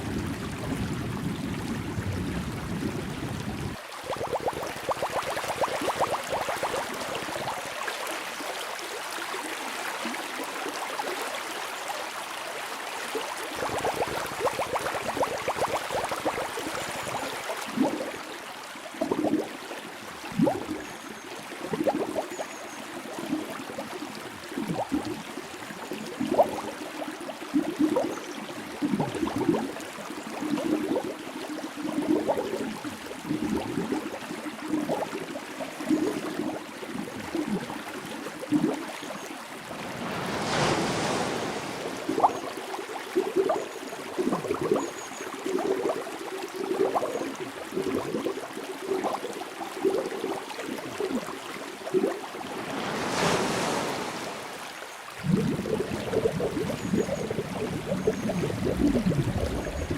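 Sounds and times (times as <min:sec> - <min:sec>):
underwater bubbling and gurgling: 0:00.0 - 0:11.3, 0:13.1 - 0:59.9
rushing water: 0:00.0 - 0:59.9.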